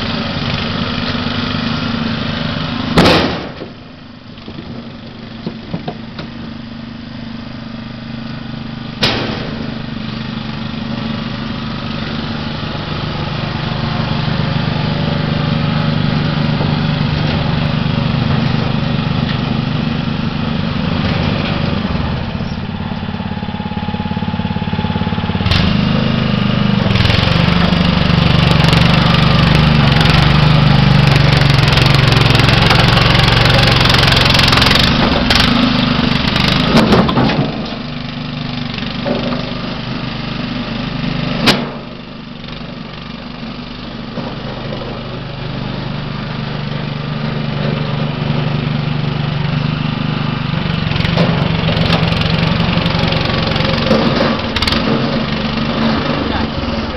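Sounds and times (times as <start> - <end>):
small petrol engine running: 0.0 - 56.9.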